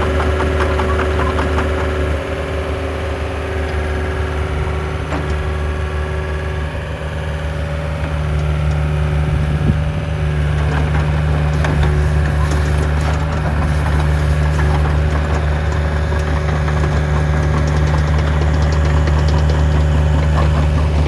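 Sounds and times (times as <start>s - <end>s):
excavator diesel engine idling: 0.0s - 21.0s.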